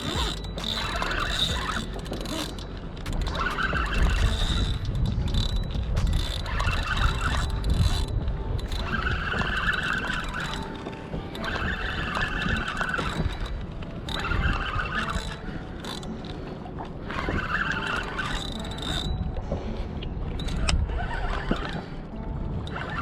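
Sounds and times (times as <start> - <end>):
fishing reel whirring: 0.0 - 19.5, 20.3 - 23.0
wind buffeting microphone: 0.0 - 23.0.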